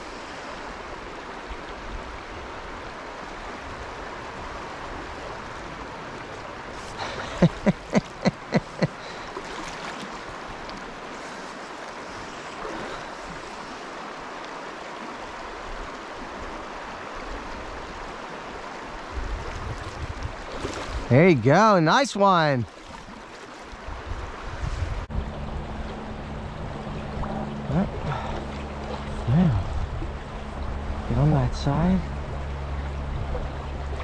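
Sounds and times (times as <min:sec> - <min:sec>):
creek water flowing and rippling: 0:00.0 - 0:34.0.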